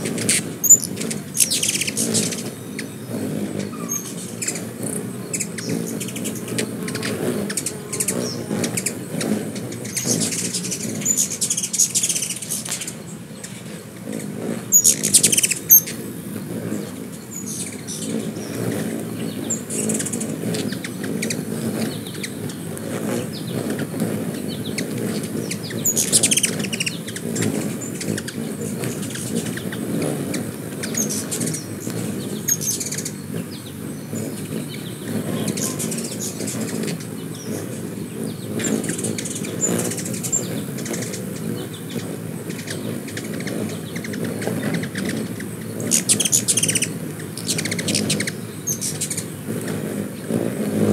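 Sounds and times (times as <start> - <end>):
hummingbird wingbeats humming: 0.0 - 50.9
hummingbirds chipping and chattering: 0.0 - 50.9.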